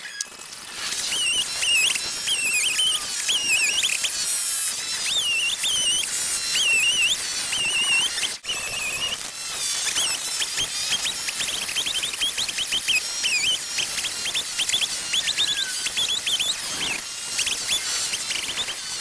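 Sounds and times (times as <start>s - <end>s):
sped-up chainsaw warbling chirps: 0.0s - 19.0s.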